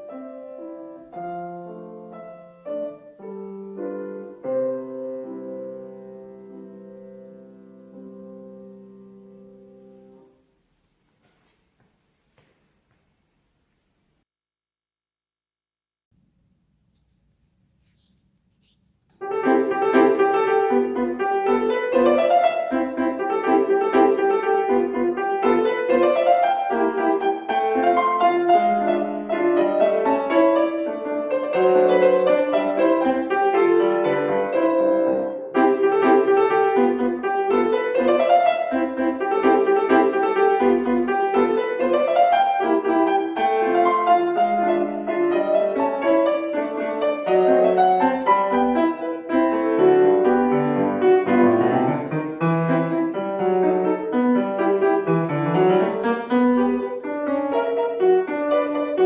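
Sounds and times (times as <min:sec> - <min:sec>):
solo piano classical piece: 0:00.0 - 0:11.6, 0:17.8 - 0:59.0.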